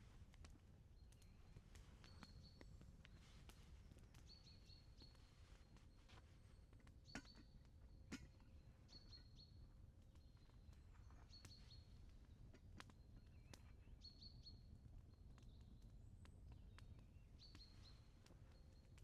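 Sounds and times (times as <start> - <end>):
small bird chirps: 1.0 - 14.8, 15.4 - 19.0.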